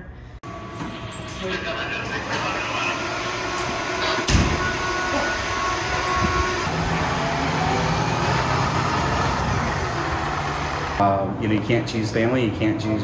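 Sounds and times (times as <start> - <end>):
diesel engine humming: 0.5 - 11.6.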